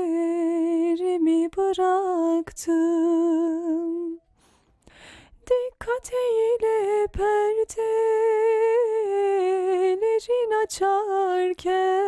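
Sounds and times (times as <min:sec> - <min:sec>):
woman singing unaccompanied: 0:00.0 - 0:04.2, 0:05.4 - 0:12.0.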